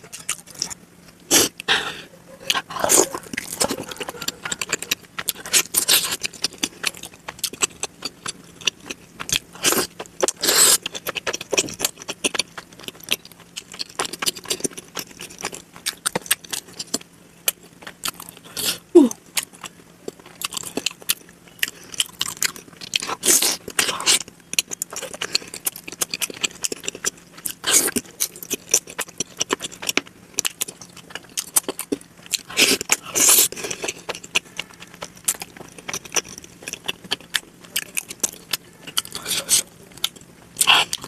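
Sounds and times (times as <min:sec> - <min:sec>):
wet chewing and biting: 0:00.0 - 0:41.0.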